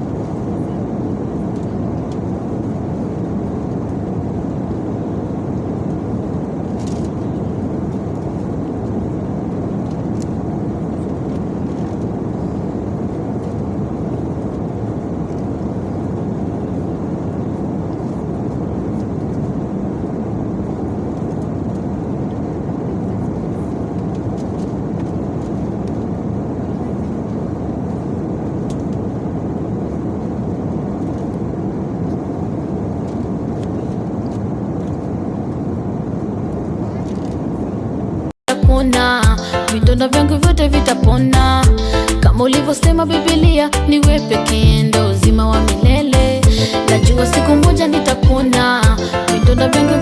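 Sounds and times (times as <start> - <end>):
aircraft cabin drone: 0.0 - 50.0.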